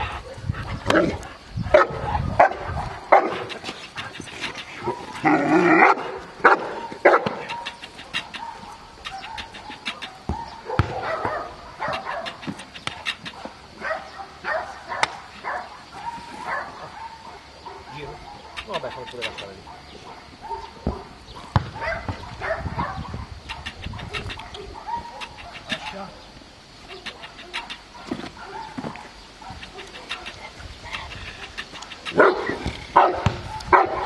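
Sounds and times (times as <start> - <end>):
dog barking: 1.7 - 3.5, 5.7 - 26.1, 26.9 - 30.4, 32.1 - 34.0.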